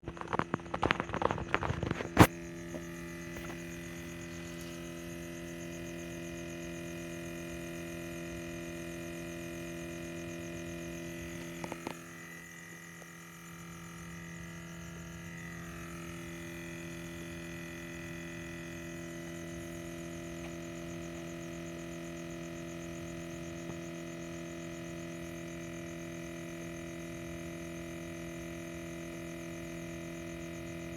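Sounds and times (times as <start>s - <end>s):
steady buzzing hum: 0.0s - 30.9s.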